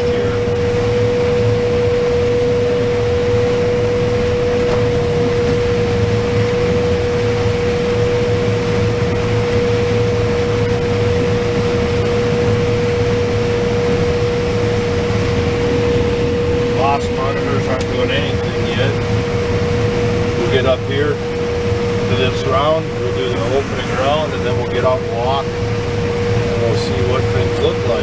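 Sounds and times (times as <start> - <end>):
combine harvester low rumble: 0.0 - 28.0
steady high whine: 0.0 - 28.0.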